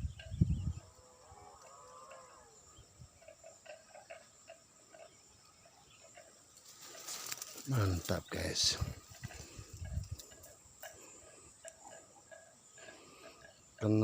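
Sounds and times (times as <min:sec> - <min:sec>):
faint animal calls: 0:00.0 - 0:14.0.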